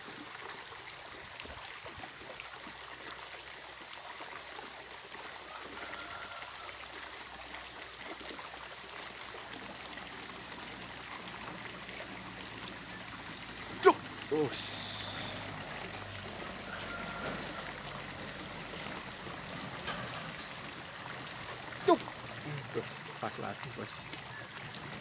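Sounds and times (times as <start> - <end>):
stream running over rocks: 0.0 - 25.0.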